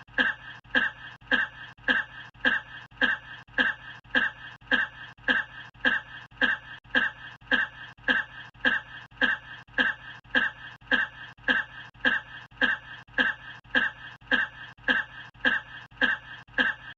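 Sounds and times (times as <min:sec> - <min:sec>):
person coughing: 0:00.0 - 0:16.9.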